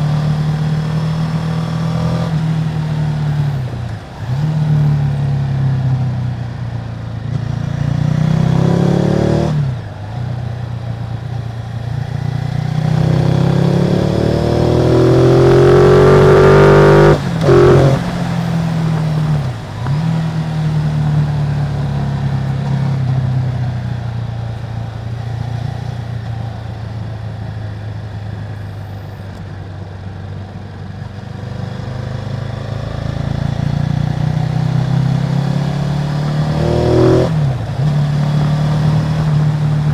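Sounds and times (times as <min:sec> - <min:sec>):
motorcycle engine revving: 0:00.0 - 0:29.2, 0:31.2 - 0:39.9.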